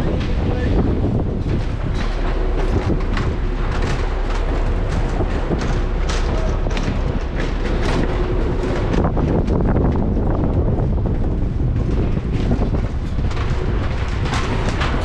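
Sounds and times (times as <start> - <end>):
knocks and crackles: 0.0 - 15.0
wind buffeting microphone: 0.0 - 15.0.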